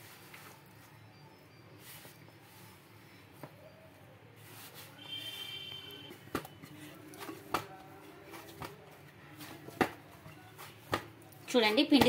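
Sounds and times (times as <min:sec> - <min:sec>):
hand kneading dough: 0:00.0 - 0:12.0.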